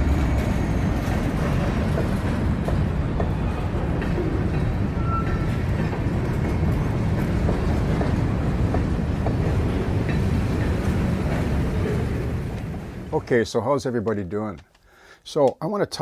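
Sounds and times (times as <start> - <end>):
train rumbling on track: 0.0 - 13.7.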